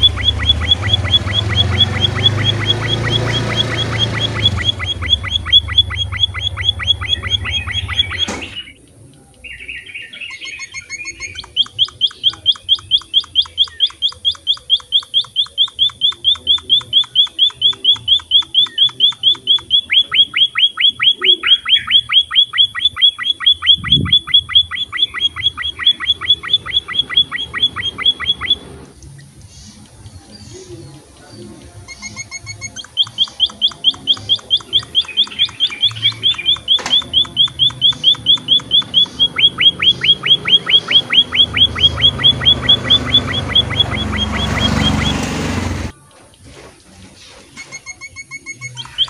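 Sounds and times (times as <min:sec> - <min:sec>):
finch chirping: 0:00.0 - 0:45.9, 0:47.6 - 0:49.0.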